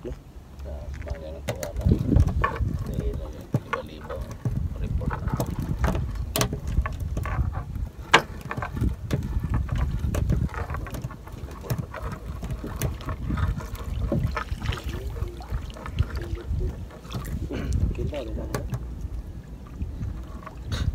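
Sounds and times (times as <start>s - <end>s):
net knocking against boat hull: 1.4s - 19.0s.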